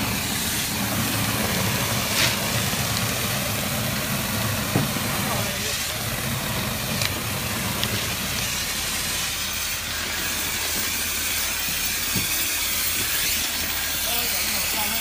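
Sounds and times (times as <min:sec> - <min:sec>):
concrete spraying hiss: 0:00.0 - 0:15.0.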